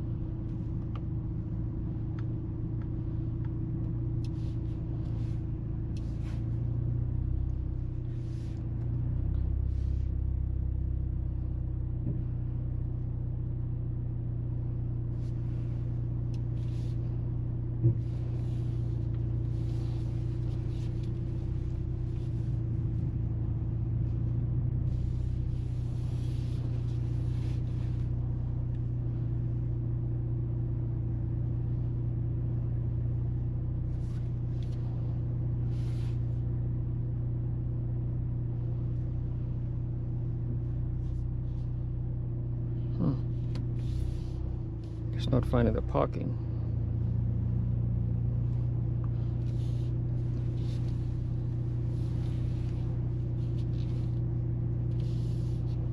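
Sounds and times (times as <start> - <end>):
car engine and road drone: 0.0 - 55.9.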